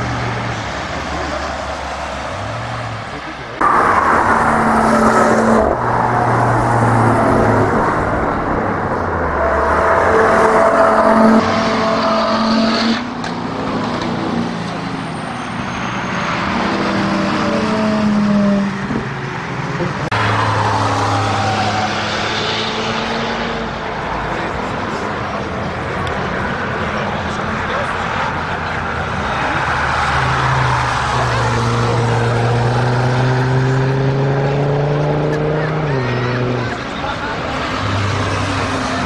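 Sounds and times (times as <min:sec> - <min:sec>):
cars driving past: 0:00.0 - 0:39.0.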